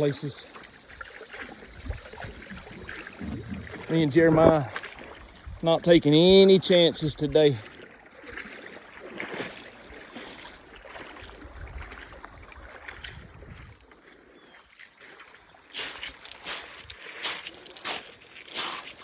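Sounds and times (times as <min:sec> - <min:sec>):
water splashing around canoe: 0:00.0 - 0:19.0.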